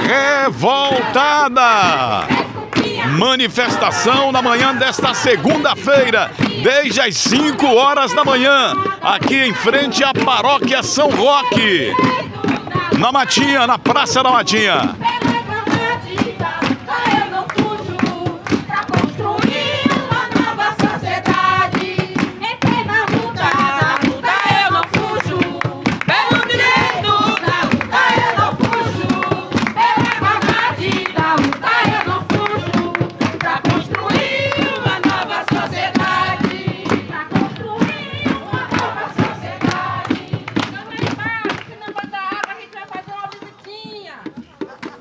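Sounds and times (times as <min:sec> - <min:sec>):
crowd singing: 0:00.0 - 0:43.5
percussion: 0:00.0 - 0:45.0
rapid hand clapping: 0:01.7 - 0:43.7.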